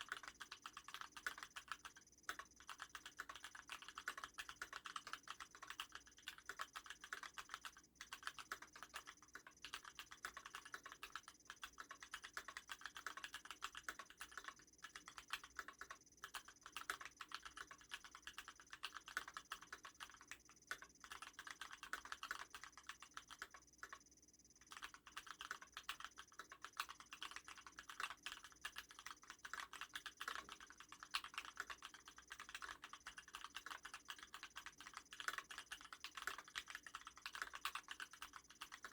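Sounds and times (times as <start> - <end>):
mechanical keyboard typing: 0.0 - 24.0, 24.6 - 38.9.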